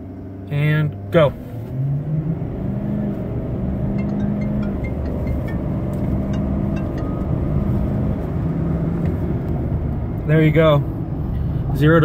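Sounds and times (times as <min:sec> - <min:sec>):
diesel truck engine accelerating: 0:00.0 - 0:12.0.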